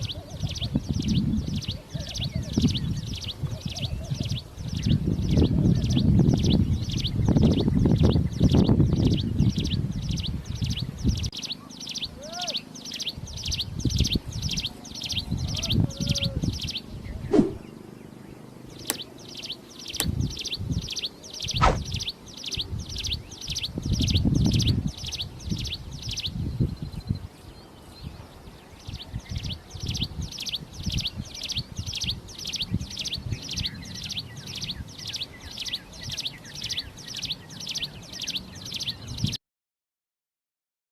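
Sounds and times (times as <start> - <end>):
bird buzzy song: 0.0 - 39.4.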